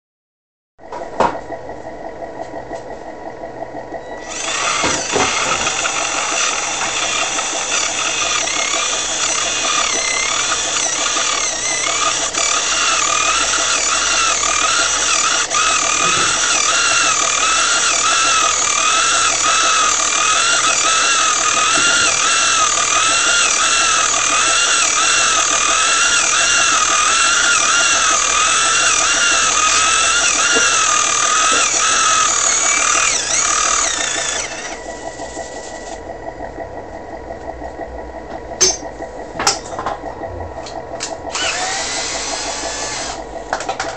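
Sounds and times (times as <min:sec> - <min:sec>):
electric air compressor whining: 0:04.2 - 0:36.1, 0:39.7 - 0:43.9.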